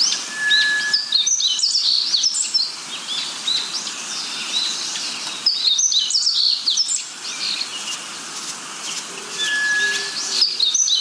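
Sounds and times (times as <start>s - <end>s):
birds chirping and whistling: 0.0s - 11.0s
steady background hiss: 0.0s - 11.0s.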